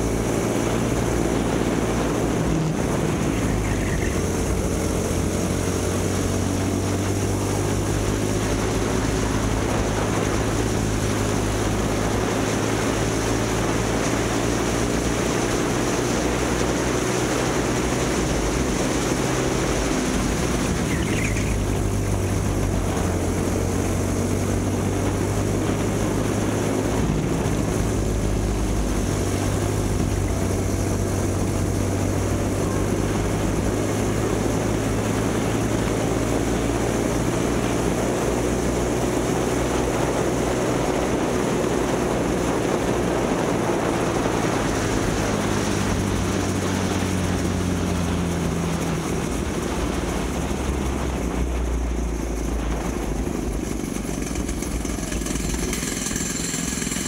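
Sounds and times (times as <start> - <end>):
small kart engine running: 0.0 - 57.0.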